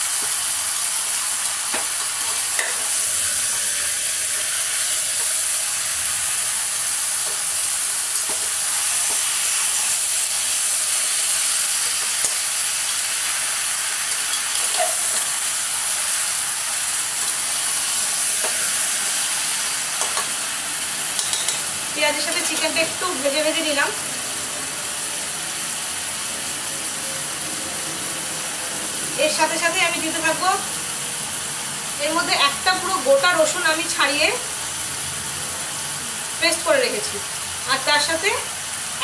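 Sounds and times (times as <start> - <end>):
chicken sizzling in oil: 0.0 - 39.0.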